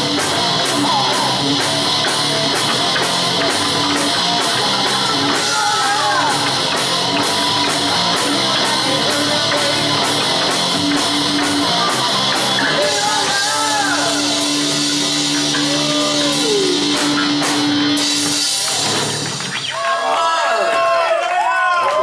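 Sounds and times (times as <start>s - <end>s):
steady drum beat: 0.0s - 19.8s
bending guitar notes: 0.0s - 19.9s
rock band playing: 0.0s - 20.2s.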